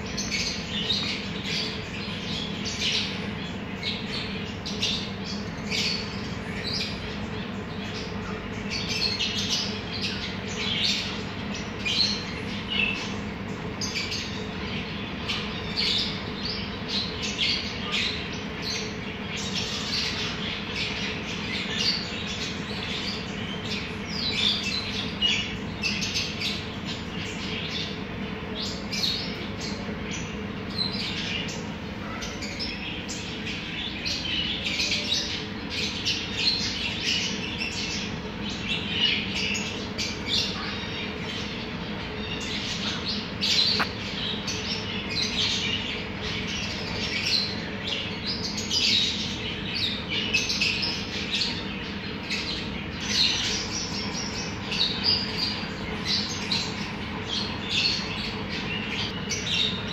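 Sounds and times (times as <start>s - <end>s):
parrots and finches chirping: 0.0s - 59.9s
steady low hum: 0.0s - 59.9s.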